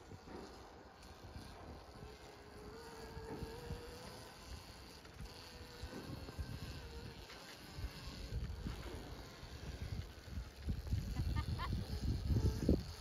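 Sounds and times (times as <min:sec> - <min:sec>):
electric motorbike motor whining: 0:00.0 - 0:13.0.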